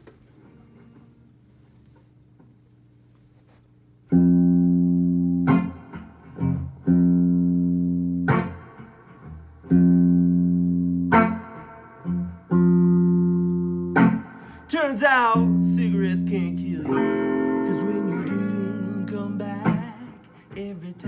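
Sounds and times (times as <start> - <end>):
guitar chords strummed: 4.1 - 21.0.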